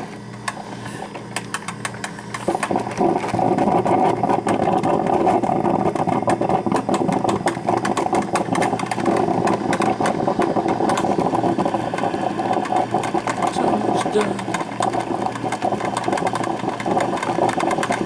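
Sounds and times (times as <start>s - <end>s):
coffee maker gurgling and crackling: 0.0s - 18.0s.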